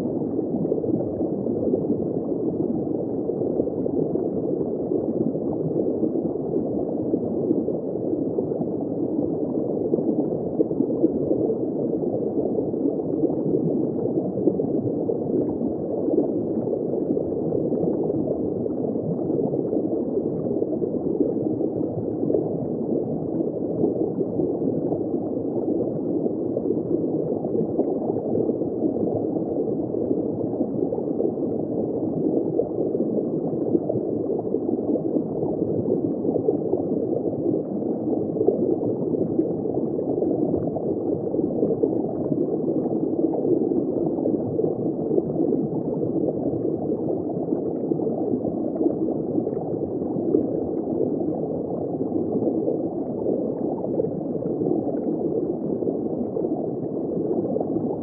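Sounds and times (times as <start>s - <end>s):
muffled underwater bubbling: 0.0s - 58.0s.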